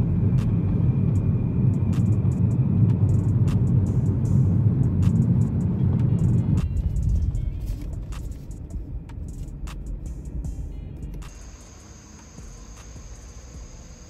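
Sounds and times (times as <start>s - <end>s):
car driving rumble: 0.0s - 14.0s
sharp ticks: 1.7s - 13.5s.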